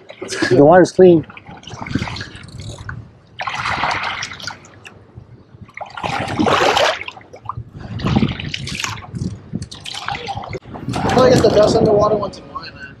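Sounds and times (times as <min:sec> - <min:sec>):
water sloshing and splashing: 0:00.0 - 0:11.9.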